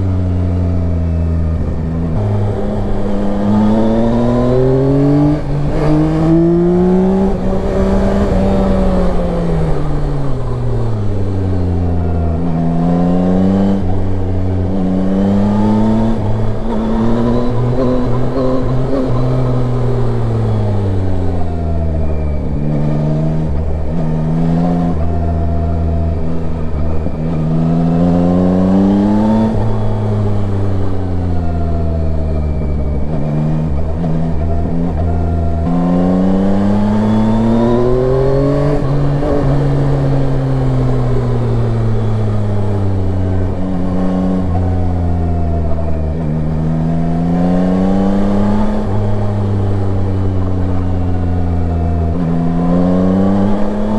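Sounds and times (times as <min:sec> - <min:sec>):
motorcycle engine accelerating: 0:00.0 - 0:53.9
wind and road rush: 0:00.0 - 0:53.9.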